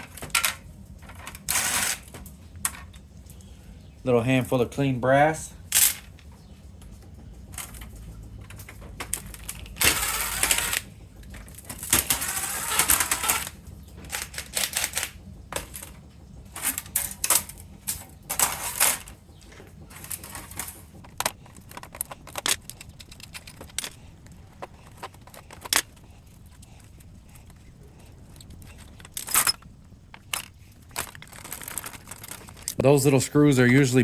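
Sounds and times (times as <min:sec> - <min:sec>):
metal parts and tools clattering: 0:00.0 - 0:03.0, 0:05.7 - 0:06.3, 0:07.5 - 0:34.0.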